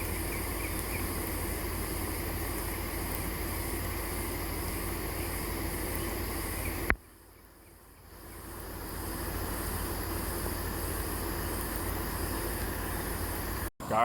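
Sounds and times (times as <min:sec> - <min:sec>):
insects chirping: 0:00.0 - 0:13.7.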